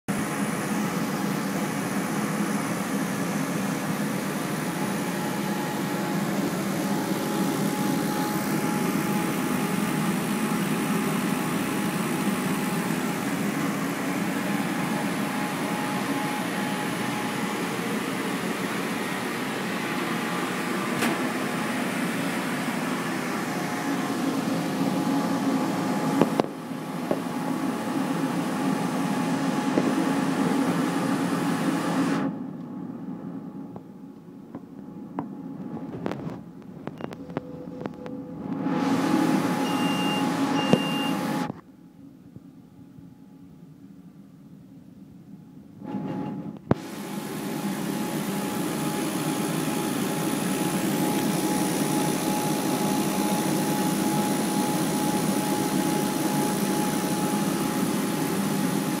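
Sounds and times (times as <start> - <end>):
laser cutter fans humming: 0.1 - 59.0.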